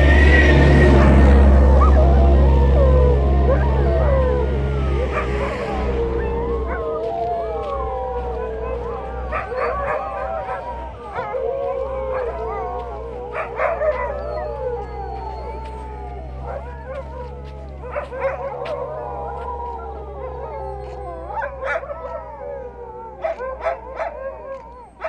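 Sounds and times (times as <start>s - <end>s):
dogs howling in chorus: 0.0s - 25.0s
dogs yelping: 0.0s - 25.0s.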